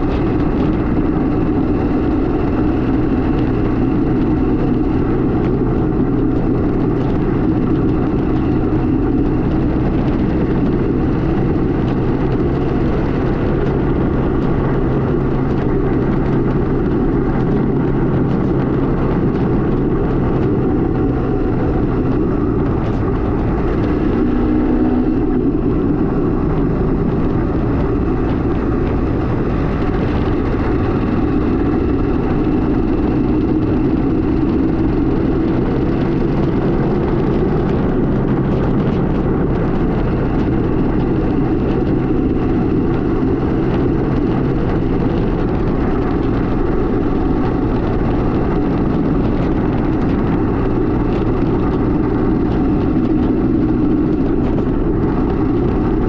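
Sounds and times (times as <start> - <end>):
constant rushing noise: 0.0 - 56.0
two-stroke motorcycle engine running: 0.0 - 56.0.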